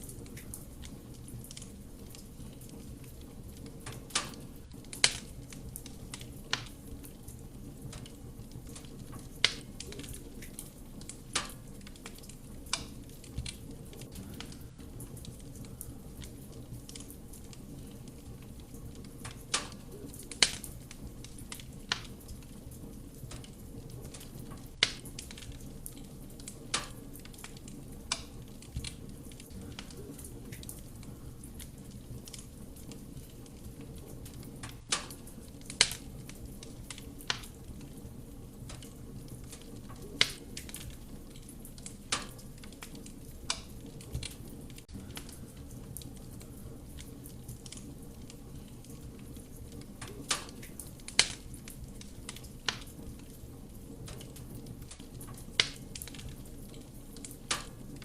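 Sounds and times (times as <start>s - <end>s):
low sound of flames: 0.0s - 58.0s
wood fire crackling and popping: 0.0s - 58.0s.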